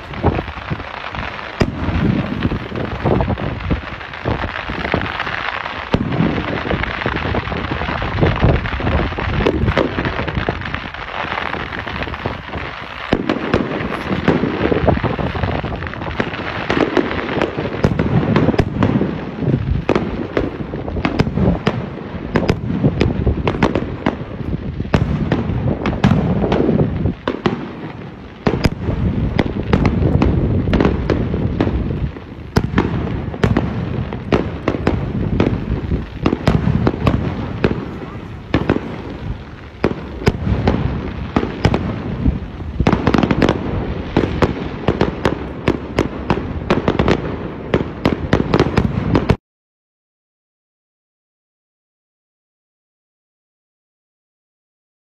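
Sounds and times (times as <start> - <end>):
fireworks bangs and crackling: 0.0 - 49.4.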